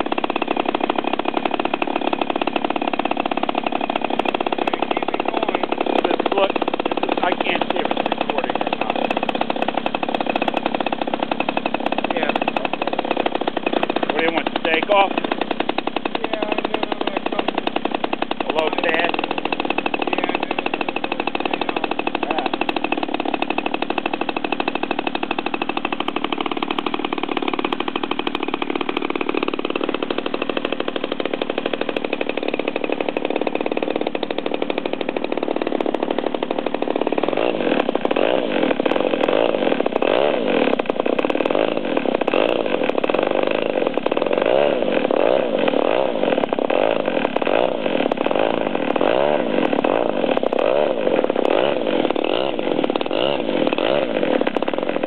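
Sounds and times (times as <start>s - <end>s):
model plane engine running: 0.0s - 55.0s.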